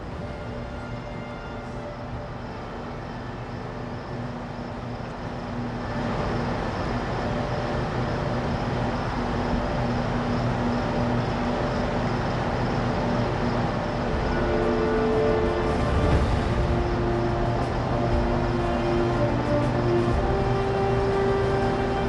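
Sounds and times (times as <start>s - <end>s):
broad noise: 0.0s - 22.0s
steady machine hum: 0.0s - 22.0s.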